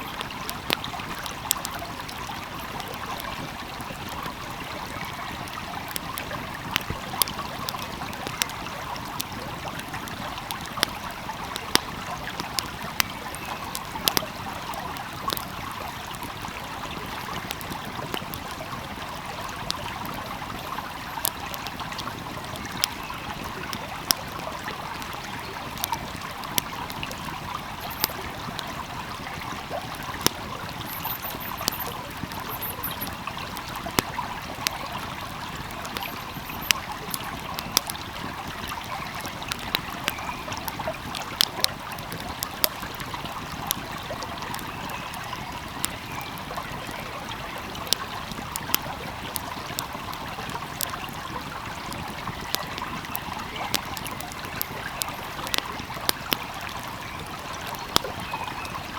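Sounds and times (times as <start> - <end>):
wood fire crackling: 0.0 - 58.8
stream flowing: 0.0 - 58.9.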